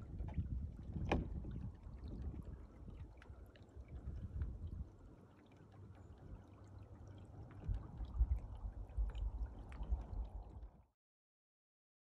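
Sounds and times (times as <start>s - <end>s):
low uneven rumble: 0.0s - 10.9s
water lapping and gurgling: 0.0s - 10.9s.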